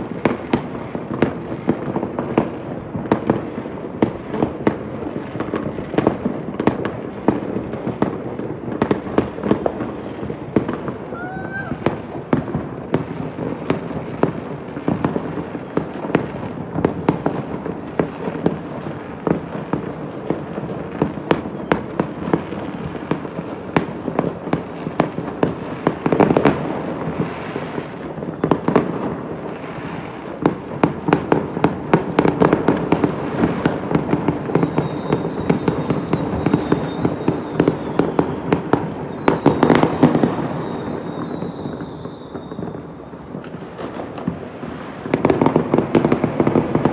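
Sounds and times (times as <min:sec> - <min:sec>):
distant fireworks crackling and banging: 0:00.0 - 0:46.9.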